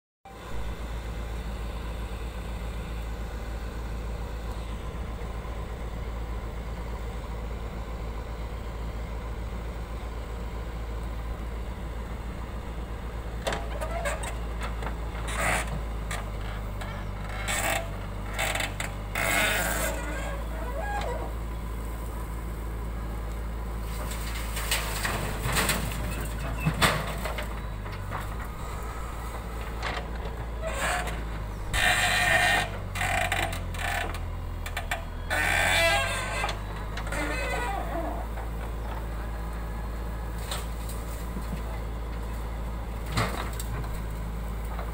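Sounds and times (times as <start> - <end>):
diesel engine running: 0.3 - 44.9.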